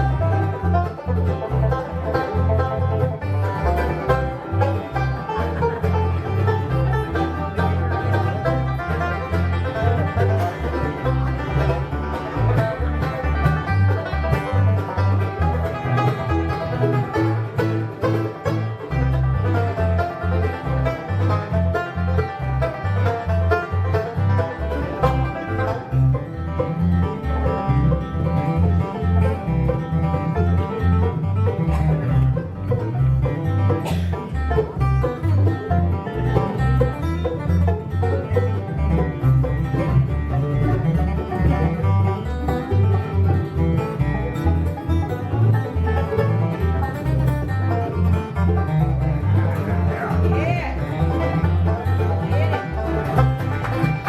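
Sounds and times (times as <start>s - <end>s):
banjo picking: 0.0s - 54.0s
bluegrass band playing: 0.0s - 54.0s.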